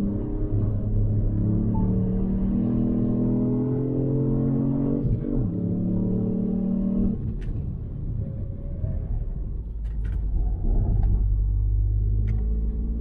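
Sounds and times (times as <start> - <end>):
car engine heard from cabin: 0.0 - 7.8, 9.5 - 13.0
road rumble: 0.0 - 13.0.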